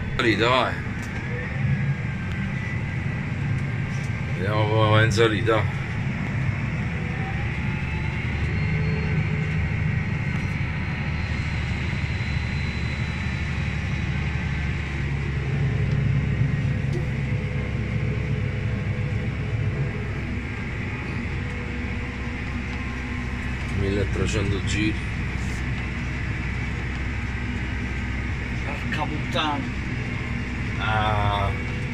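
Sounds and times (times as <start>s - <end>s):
faint high whine: 0.0s - 31.9s
tractor diesel engine under load: 0.0s - 31.9s.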